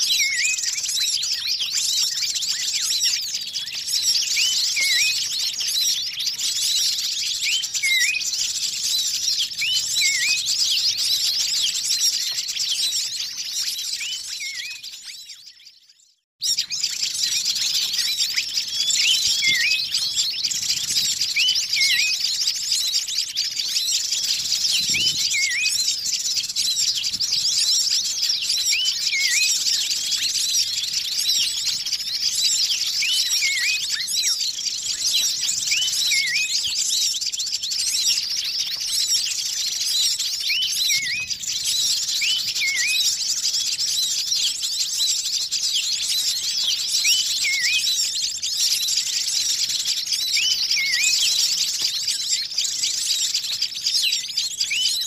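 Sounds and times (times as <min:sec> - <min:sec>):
hooked whistled bird notes: 0:00.0 - 0:55.0
many small birds chirping: 0:00.0 - 0:55.0.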